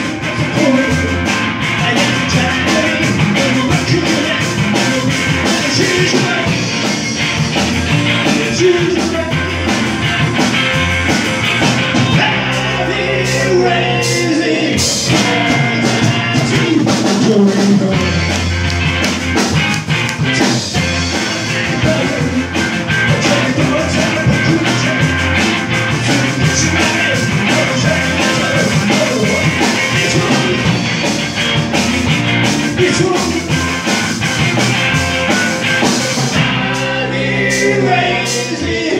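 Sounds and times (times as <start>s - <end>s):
man singing: 0.0s - 10.0s, 12.0s - 18.6s, 20.2s - 31.1s, 32.6s - 33.9s, 35.8s - 38.9s
drum kit: 0.0s - 38.9s
electric bass: 0.0s - 38.9s
electric guitars: 0.0s - 38.9s.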